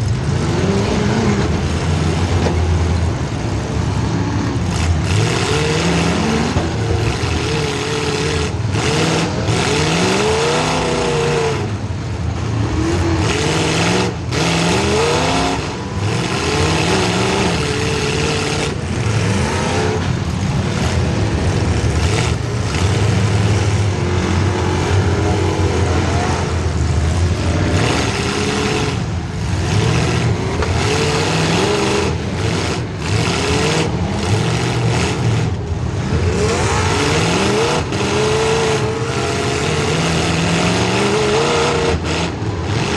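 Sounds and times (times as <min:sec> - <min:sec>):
car engine revving hard: 0:00.0 - 0:42.9.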